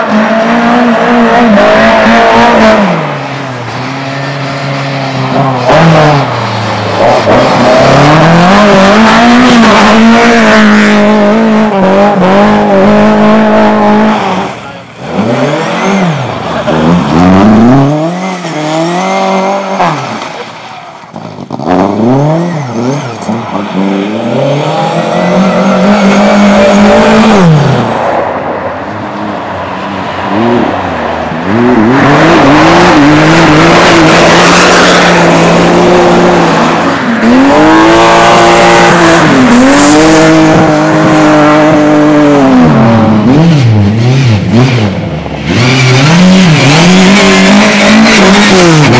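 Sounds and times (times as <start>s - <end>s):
race car engines revving: 0.0s - 48.9s.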